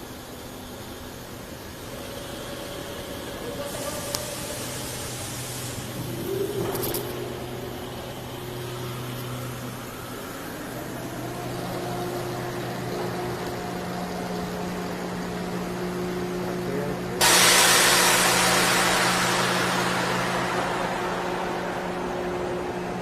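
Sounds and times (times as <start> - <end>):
conveyor machinery motor hum: 0.0 - 23.0
loud hiss: 1.0 - 23.0.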